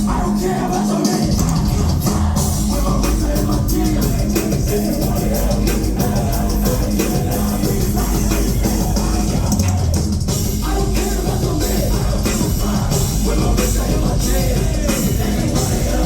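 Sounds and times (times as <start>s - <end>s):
loud live music: 0.0s - 16.0s.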